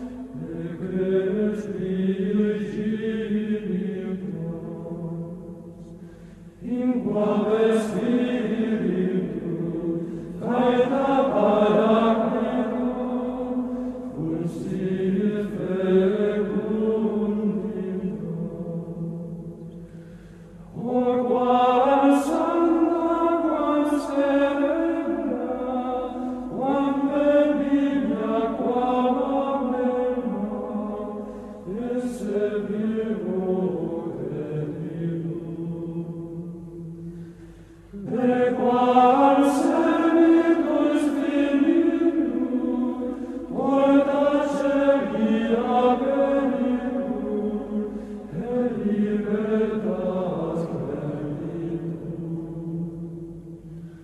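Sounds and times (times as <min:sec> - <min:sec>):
choir chanting long notes: 0:00.0 - 0:54.0.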